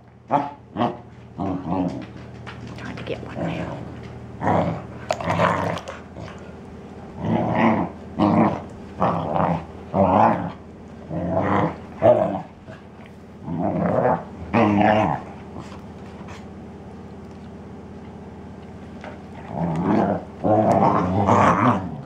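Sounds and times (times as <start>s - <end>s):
dogs growling while play-fighting: 0.3s - 16.5s, 18.6s - 22.0s.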